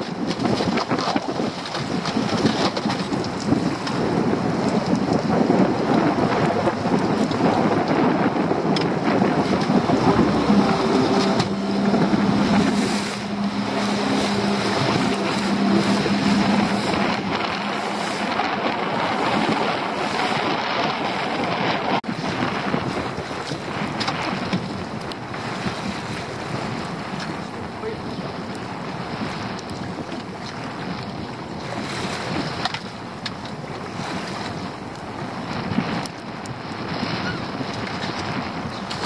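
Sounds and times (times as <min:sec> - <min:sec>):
sea splashing against boat: 0:00.0 - 0:39.0
wind buffeting microphone: 0:00.0 - 0:39.0.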